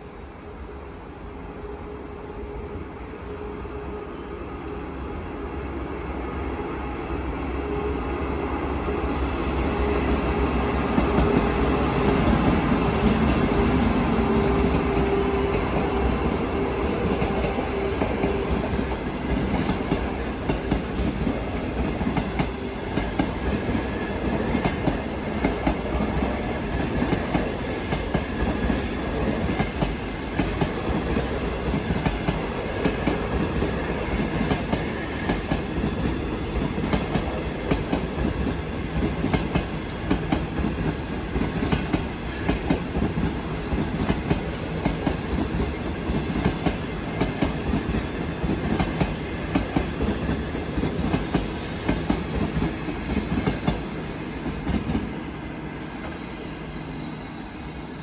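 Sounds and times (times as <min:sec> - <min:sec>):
train rumble: 0:05.1 - 0:58.0
train wheels clicking on rails: 0:09.1 - 0:55.2, 0:55.8 - 0:58.0.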